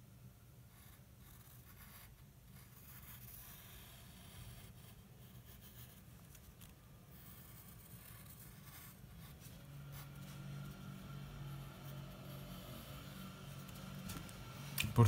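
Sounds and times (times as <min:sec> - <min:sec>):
low steady hum: 0:00.0 - 0:15.0
drawing tool scratching on paper: 0:00.7 - 0:14.2.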